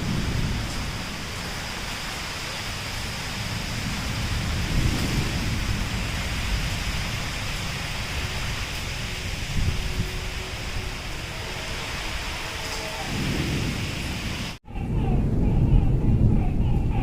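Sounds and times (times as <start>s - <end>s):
heavy rain falling: 0.0s - 17.0s
low rumble: 0.0s - 17.0s.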